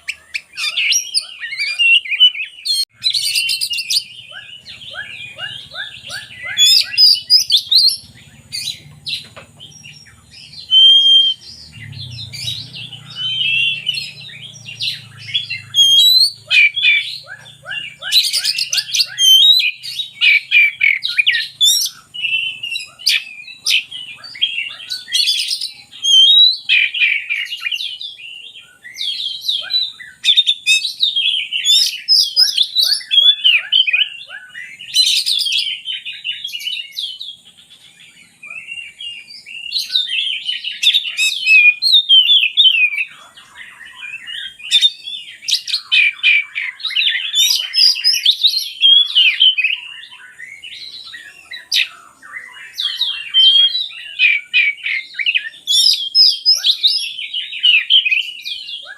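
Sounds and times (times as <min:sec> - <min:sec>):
bird singing whistles and trills: 0:00.0 - 0:58.9.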